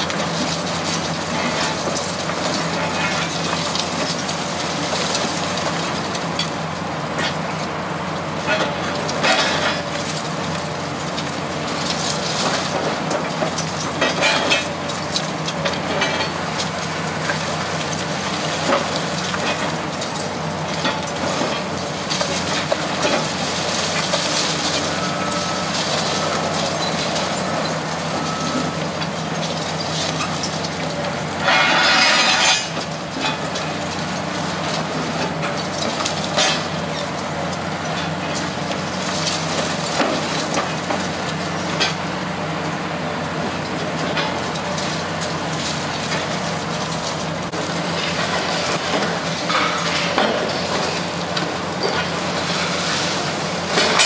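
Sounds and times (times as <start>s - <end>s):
concrete cracking and crunching: 0.0s - 7.6s, 8.4s - 42.1s, 43.1s - 54.0s
excavator engine running: 0.0s - 54.0s.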